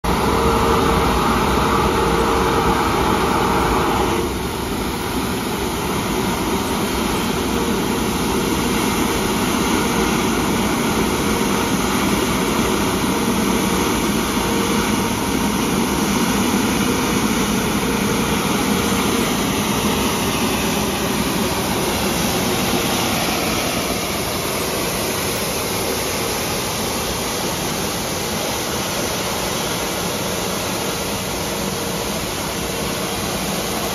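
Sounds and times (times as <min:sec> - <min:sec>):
road sweeper engine and fan: 0:00.0 - 0:33.9
steady hum: 0:00.0 - 0:33.9.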